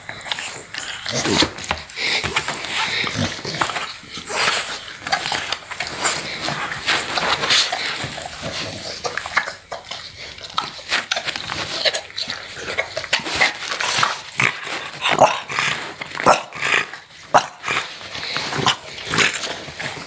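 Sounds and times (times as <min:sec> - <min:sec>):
puppy whining and grunting: 0:00.0 - 0:20.0.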